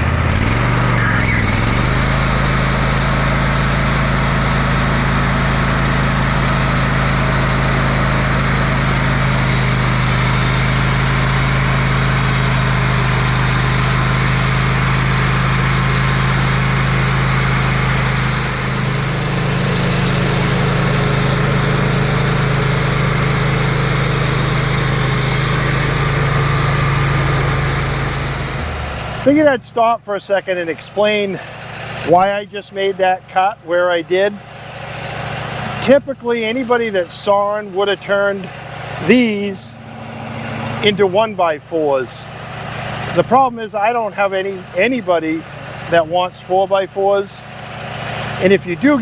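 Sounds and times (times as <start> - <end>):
saw cutting log: 0.0 - 29.9, 30.5 - 49.0
sawmill engine humming: 0.0 - 49.0.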